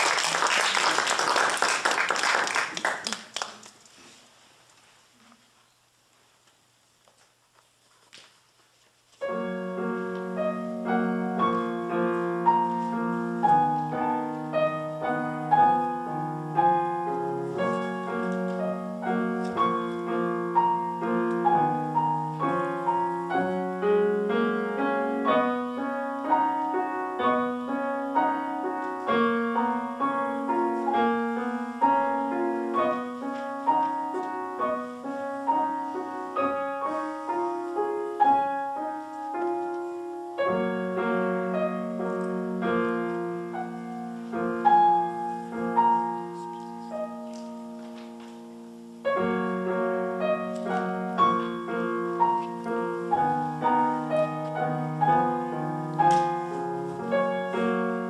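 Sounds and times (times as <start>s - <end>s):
grand piano piece: 0.0s - 3.6s, 9.1s - 58.0s.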